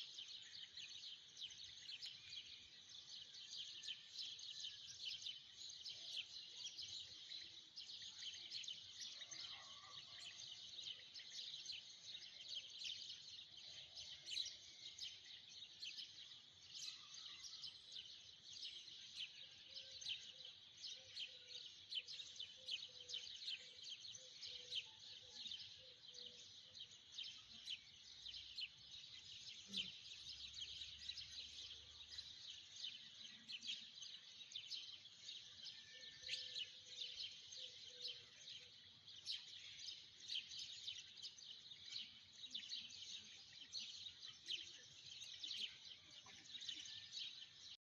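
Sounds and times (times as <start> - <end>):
faint high-pitched chirping chorus: 0.0 - 47.8.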